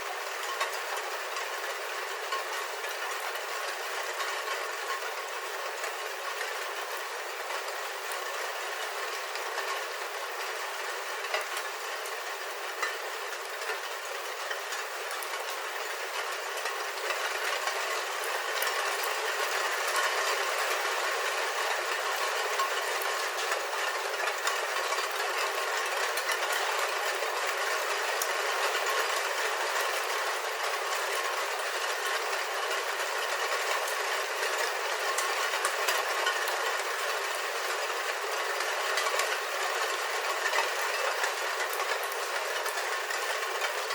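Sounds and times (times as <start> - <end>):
rain on a roof: 0.0 - 43.9.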